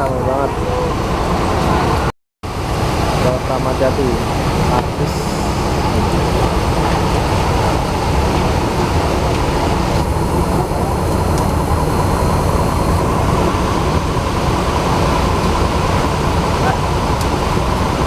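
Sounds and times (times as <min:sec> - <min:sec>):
diesel engines rumbling: 0:00.0 - 0:18.0.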